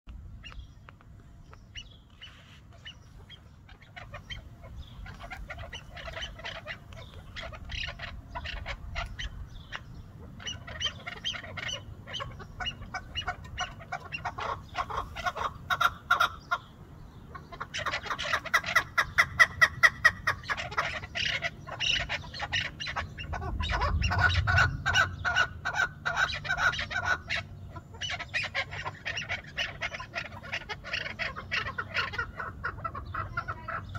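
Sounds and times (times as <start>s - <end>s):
partridges calling: 0.3s - 33.9s.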